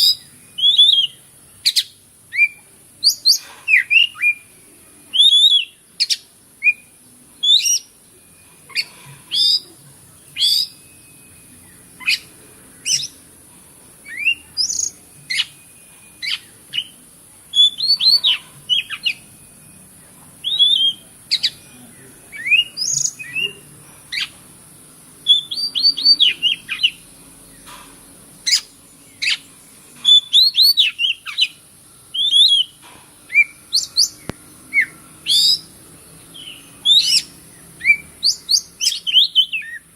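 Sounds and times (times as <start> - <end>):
bird singing whistled notes: 0.0 - 13.3, 14.0 - 24.4, 25.2 - 27.7, 28.4 - 39.9
steady high-pitched hiss: 0.0 - 39.9.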